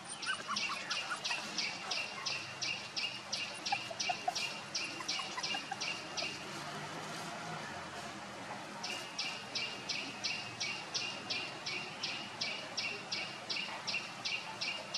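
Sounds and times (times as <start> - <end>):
outdoor background noise: 0.0 - 14.9.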